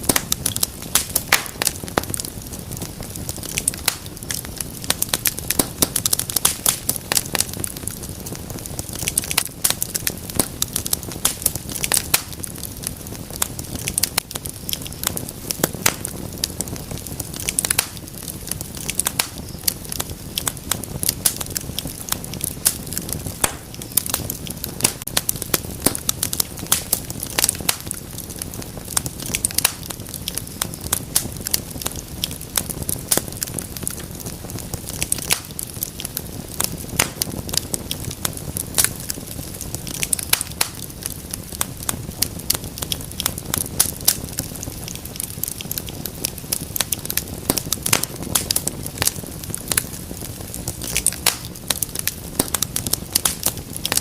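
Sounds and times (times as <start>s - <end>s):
burning logs snapping and popping: 0.0s - 54.0s
low rumble of flames: 0.0s - 54.0s.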